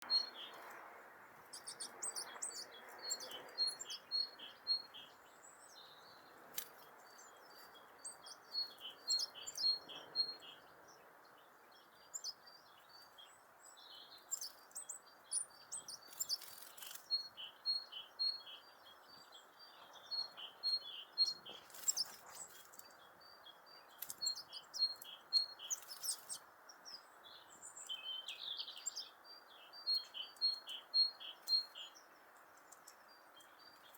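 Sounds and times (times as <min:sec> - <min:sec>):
birds singing and calling: 0:00.0 - 0:00.8, 0:01.4 - 0:33.9.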